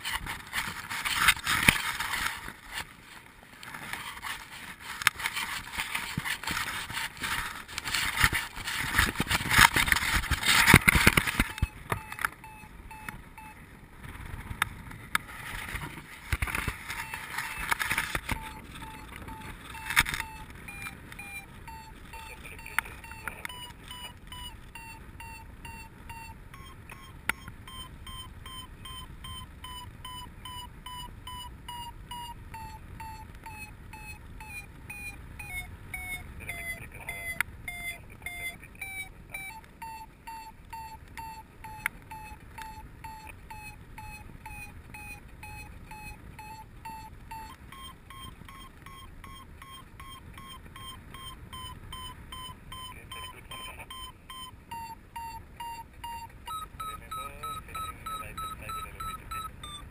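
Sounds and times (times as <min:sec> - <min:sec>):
variometer beeping: 0:05.2 - 0:13.6, 0:16.3 - 0:59.9.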